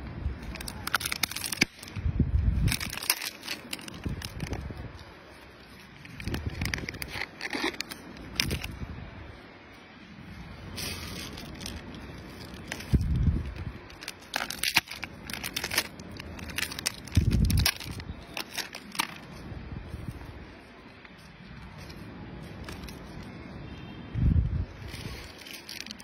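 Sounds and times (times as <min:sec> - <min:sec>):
plastic wrapper crinkling: 0:00.4 - 0:02.0, 0:02.6 - 0:08.9, 0:10.7 - 0:20.3, 0:20.9 - 0:23.4, 0:24.9 - 0:26.0.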